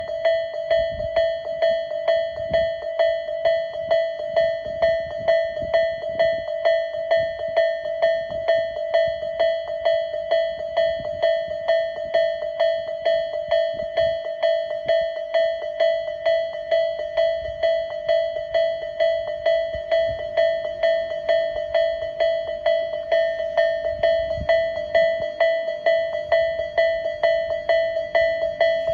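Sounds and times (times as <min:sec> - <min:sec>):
level crossing warning bell: 0:00.0 - 0:28.9.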